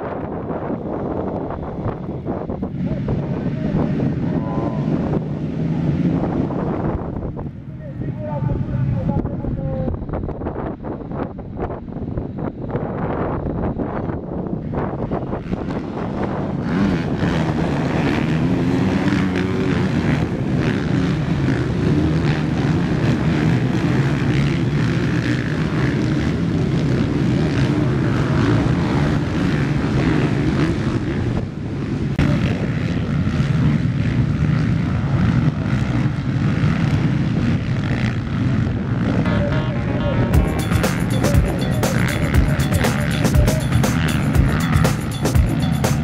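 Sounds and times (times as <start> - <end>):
motocross engines revving: 0.1 - 7.7, 14.8 - 46.0.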